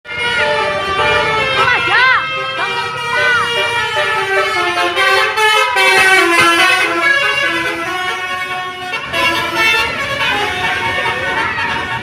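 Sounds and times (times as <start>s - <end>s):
bus horn playing a melody: 0.1s - 12.0s.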